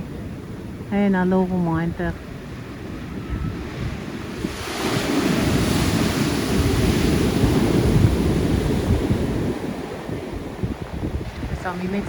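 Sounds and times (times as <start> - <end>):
wind rumbling on microphone: 0.0 - 12.0
ocean wave breaking: 2.2 - 12.0.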